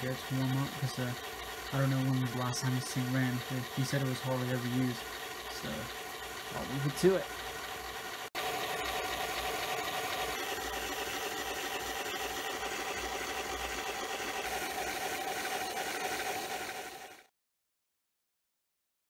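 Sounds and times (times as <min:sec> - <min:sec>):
model train motor whine: 0:00.0 - 0:17.3.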